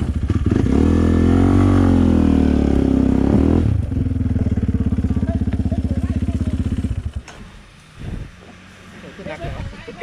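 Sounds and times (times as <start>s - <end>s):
motorcycle engine revving: 0.0s - 9.3s.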